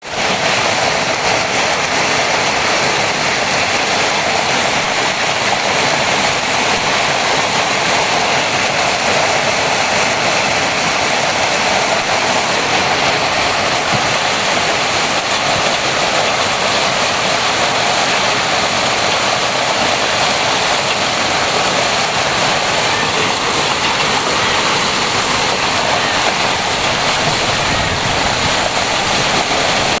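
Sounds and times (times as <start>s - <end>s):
hail and heavy rain pelting: 0.0s - 30.0s.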